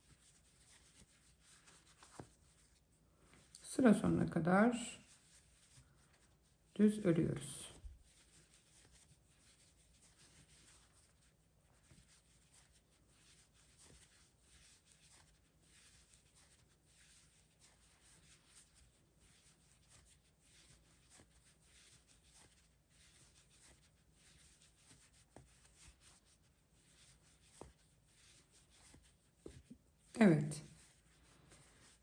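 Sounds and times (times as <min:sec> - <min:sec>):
crochet hook rustling yarn: 0:00.0 - 0:32.0.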